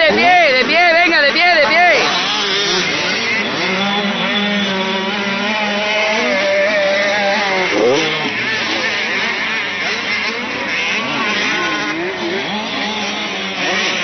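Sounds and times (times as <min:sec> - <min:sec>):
motocross bike engine running: 0:01.0 - 0:14.0.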